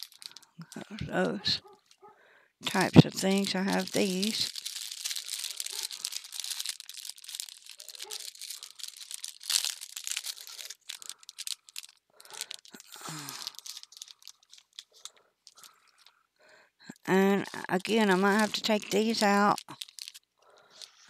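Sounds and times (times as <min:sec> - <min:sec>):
plastic packets rustling: 0:00.0 - 0:16.2, 0:16.9 - 0:21.0.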